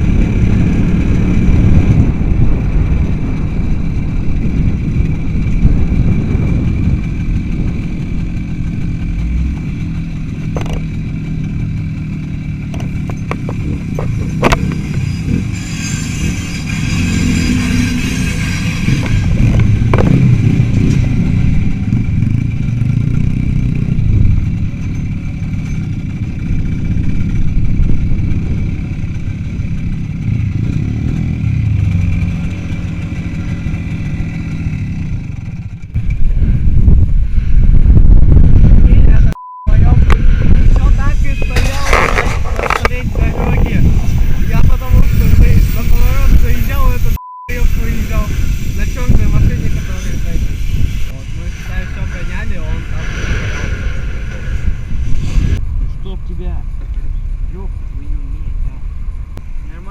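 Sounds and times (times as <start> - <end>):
motorcycle engine rumble: 0.0 - 59.9.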